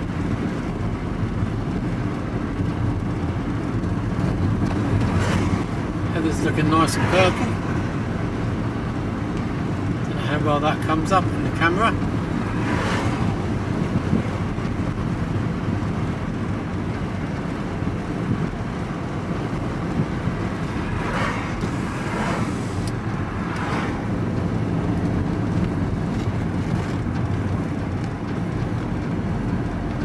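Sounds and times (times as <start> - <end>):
road noise inside vehicle: 0.0 - 30.0
vehicle engine drone: 0.0 - 30.0
vehicles rushing past: 0.0 - 30.0.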